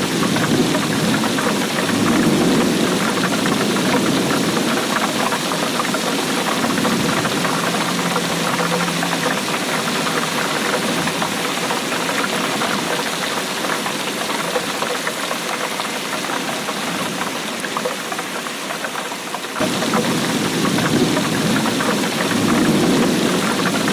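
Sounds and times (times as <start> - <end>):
heavy rain patter: 0.0 - 23.9.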